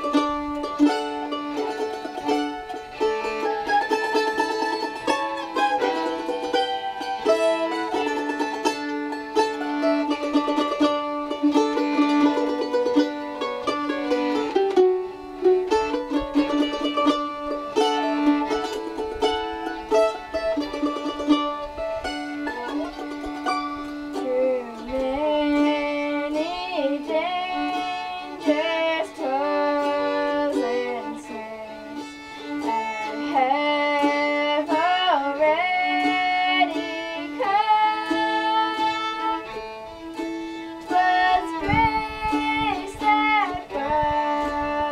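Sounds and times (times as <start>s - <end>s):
fiddle bowed melody: 0.0s - 44.9s
picked mandolin notes: 0.0s - 44.9s.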